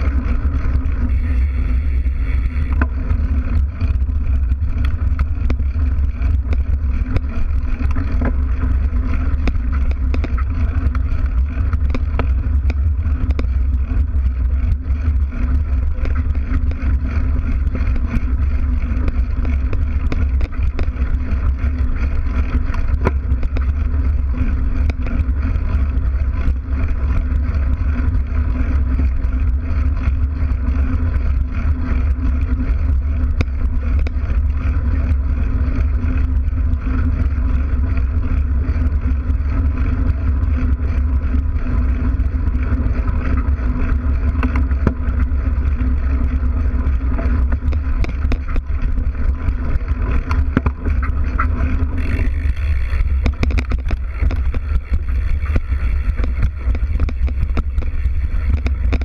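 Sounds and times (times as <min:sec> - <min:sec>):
bike tyre rolling on dirt: 0:00.0 - 0:59.0
grit and stones ticking: 0:00.0 - 0:59.0.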